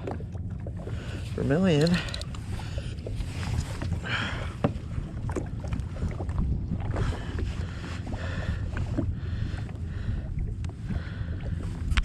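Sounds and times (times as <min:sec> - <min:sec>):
water sloshing around kayak: 0:00.0 - 0:12.0
wind rumbling on microphone: 0:00.0 - 0:12.0.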